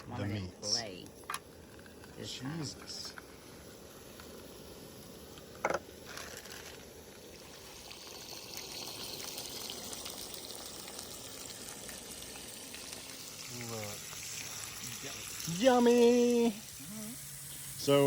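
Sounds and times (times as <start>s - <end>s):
steaks sizzling in a pan: 0.8s - 18.0s.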